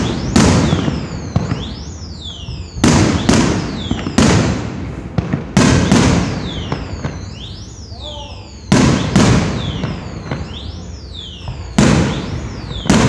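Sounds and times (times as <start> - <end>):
high whistles gliding down: 0.0 - 4.4, 5.6 - 13.0
firework crackle: 0.0 - 13.0.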